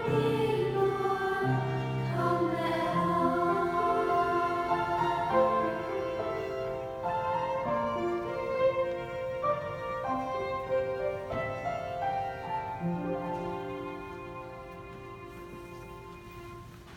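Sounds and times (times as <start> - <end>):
piano: 0.0 - 16.9
slow bowed strings music: 0.0 - 16.9.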